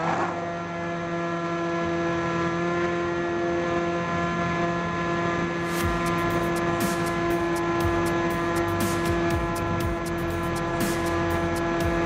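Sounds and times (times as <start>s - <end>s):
electric motor and propeller whine: 0.0s - 12.0s.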